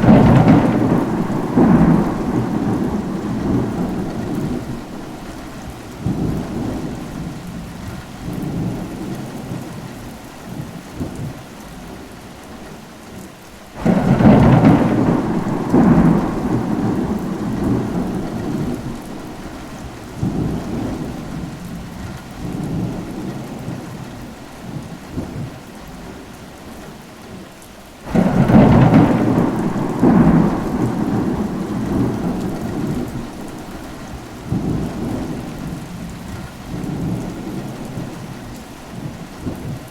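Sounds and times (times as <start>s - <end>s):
thunder rumbling: 0.0s - 9.8s, 13.8s - 25.6s, 28.1s - 39.9s
steady rain: 0.0s - 39.9s.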